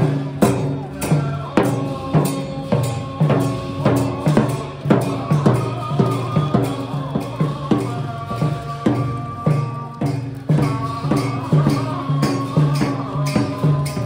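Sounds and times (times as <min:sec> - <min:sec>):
barrel drum beating: 0:00.0 - 0:14.0.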